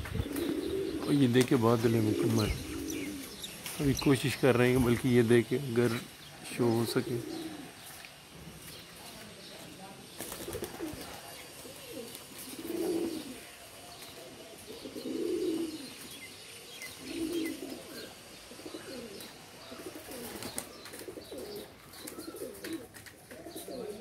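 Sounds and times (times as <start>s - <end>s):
pigeons cooing: 0.0s - 8.8s, 10.0s - 24.0s
small birds chirping: 0.0s - 24.0s.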